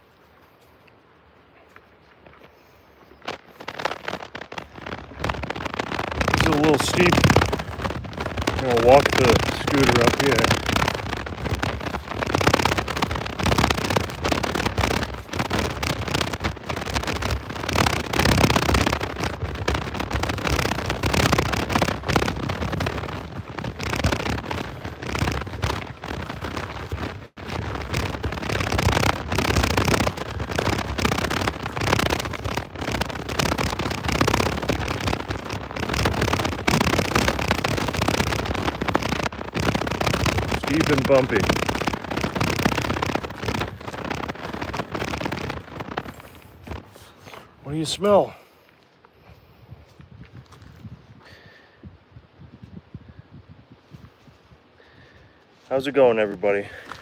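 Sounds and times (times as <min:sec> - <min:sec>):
scooter wheels rattling on dirt: 0:00.0 - 0:00.8, 0:01.6 - 0:57.0
footsteps on dirt trail: 0:00.0 - 0:57.0.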